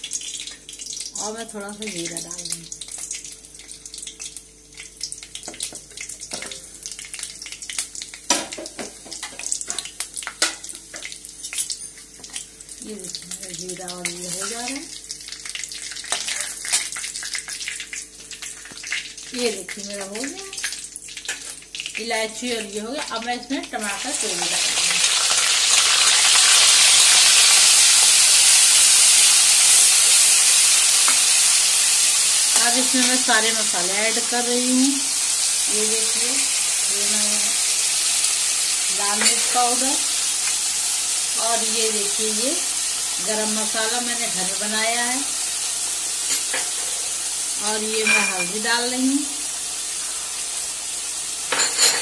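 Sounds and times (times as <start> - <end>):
spices sizzling in hot oil: 0.0 - 52.0.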